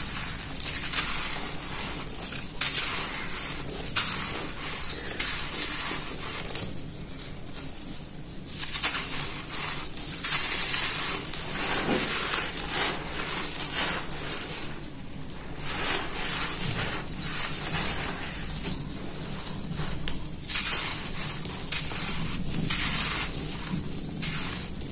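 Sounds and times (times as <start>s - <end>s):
hands crumbling dry dirt: 0.0s - 7.8s, 8.4s - 24.9s.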